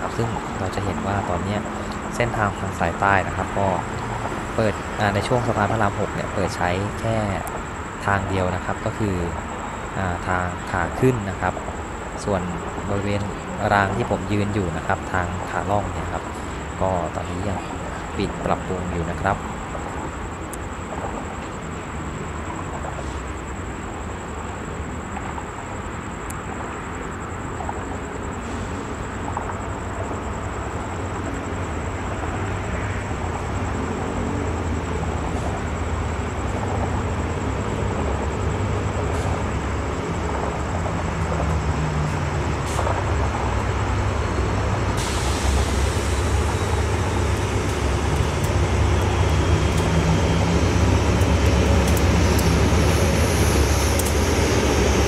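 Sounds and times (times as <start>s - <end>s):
diesel locomotive engine rumbling: 0.0s - 55.0s
high hiss: 0.0s - 55.0s.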